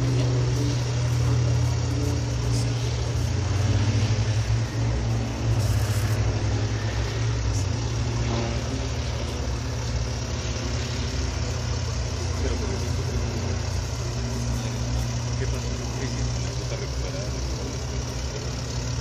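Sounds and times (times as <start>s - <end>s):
piston engine idling: 0.0s - 19.0s.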